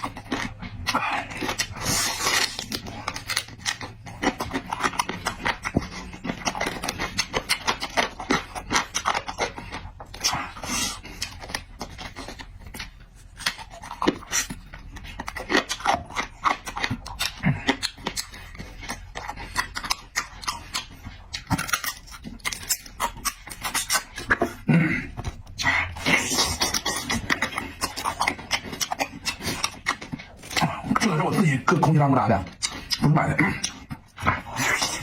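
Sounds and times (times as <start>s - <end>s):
slurping: 0.0s - 35.0s
wet chewing and lip-smacking: 0.0s - 35.0s.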